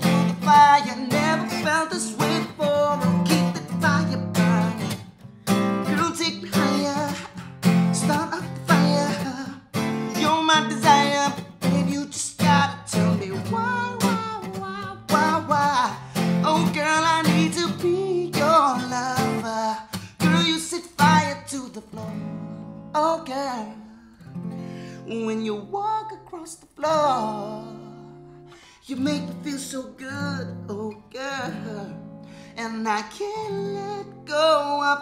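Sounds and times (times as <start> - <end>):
man singing: 0.0 - 24.2, 24.9 - 35.0
acoustic guitar strummed: 0.0 - 35.0.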